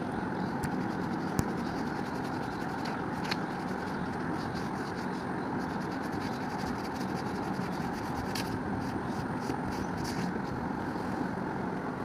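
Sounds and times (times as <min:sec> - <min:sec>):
steady background noise: 0:00.0 - 0:12.0
fingers rubbing pastel on paper: 0:00.6 - 0:10.4.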